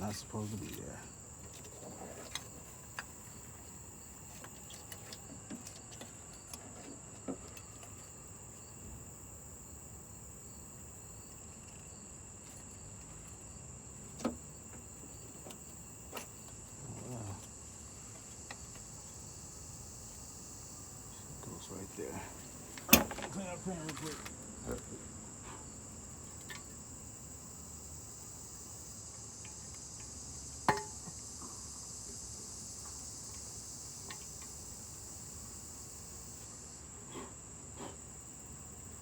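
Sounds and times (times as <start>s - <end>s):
insect trill: 0.0s - 39.0s.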